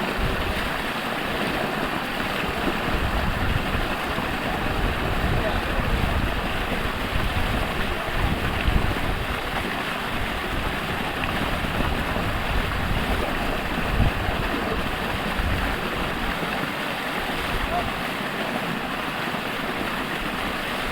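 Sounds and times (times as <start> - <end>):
falling water rushing: 0.0 - 20.9.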